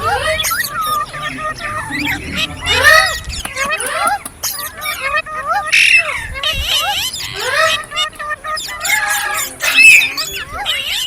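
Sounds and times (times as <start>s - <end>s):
parrot chirping: 0.0s - 11.0s.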